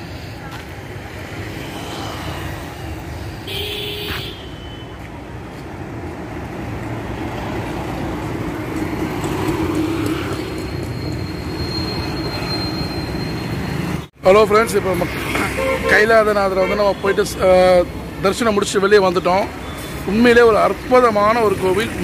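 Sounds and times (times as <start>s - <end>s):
passing vehicles rumble: 0.0s - 22.0s.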